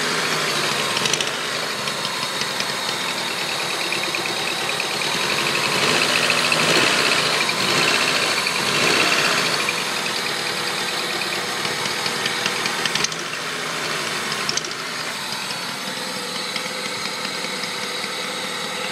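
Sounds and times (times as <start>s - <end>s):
car engine running: 0.0s - 18.9s
engine ticking: 0.0s - 18.9s.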